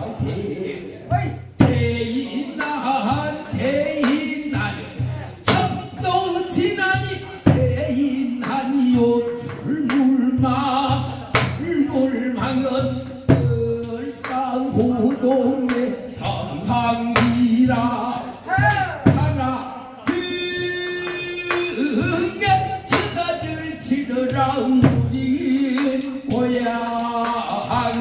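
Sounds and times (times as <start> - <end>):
man singing folk song: 0.0 - 28.0.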